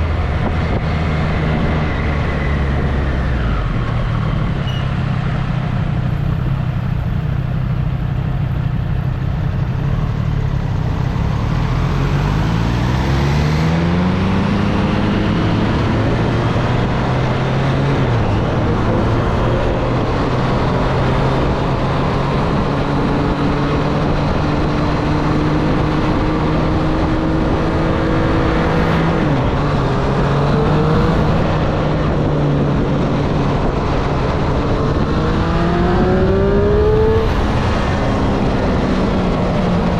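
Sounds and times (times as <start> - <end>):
wind noise: 0.0 - 7.1, 11.4 - 39.9
motorcycle engine accelerating: 0.0 - 39.9
road noise: 0.0 - 39.9.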